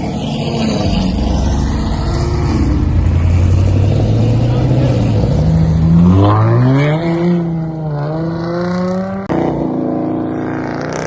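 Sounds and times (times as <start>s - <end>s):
higher engine note rising: 0.0s - 9.2s
car engine accelerating hard: 0.0s - 11.0s.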